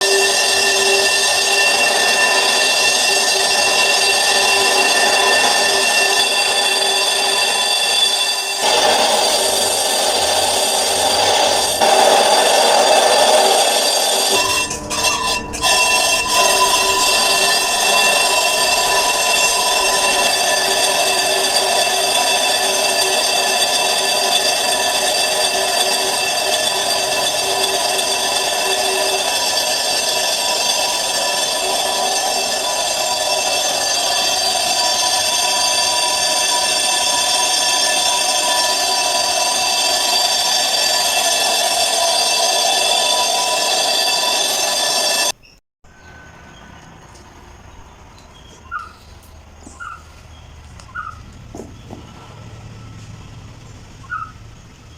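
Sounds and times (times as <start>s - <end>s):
lathe cutting ringing metal drum: 0.0s - 47.4s.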